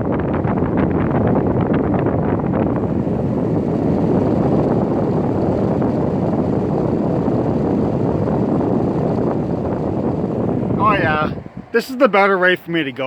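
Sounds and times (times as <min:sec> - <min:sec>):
air conditioner exhaust air rushing: 0:00.0 - 0:13.0.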